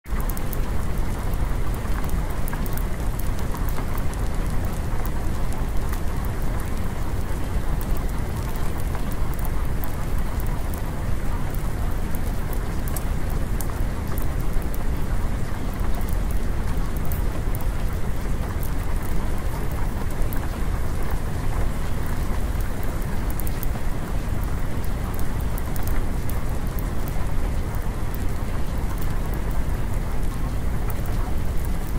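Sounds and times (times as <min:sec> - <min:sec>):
heavy rain: 0:00.1 - 0:31.9.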